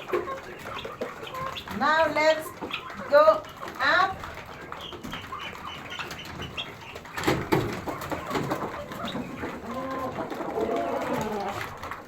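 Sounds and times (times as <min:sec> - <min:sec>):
poultry clucking: 0:00.0 - 0:12.0.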